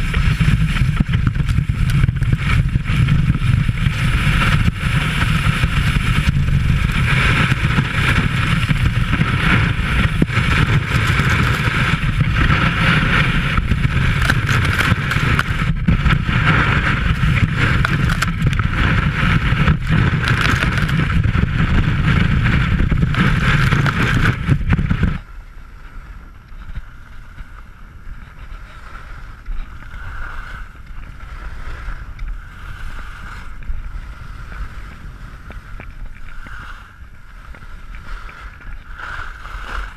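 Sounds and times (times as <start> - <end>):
skis scraping through snow: 0.0 - 39.9
wind on microphone: 0.0 - 39.9.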